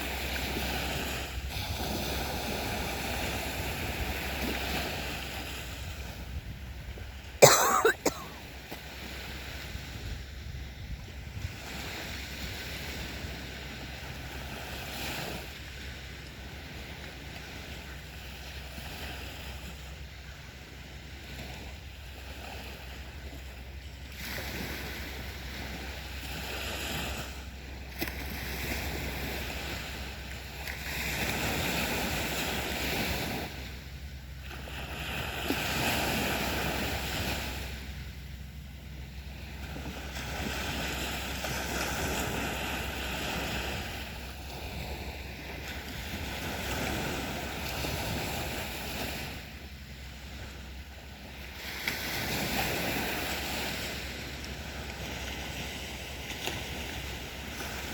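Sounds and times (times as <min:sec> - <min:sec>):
sea waves breaking on beach: 0:00.0 - 0:57.9.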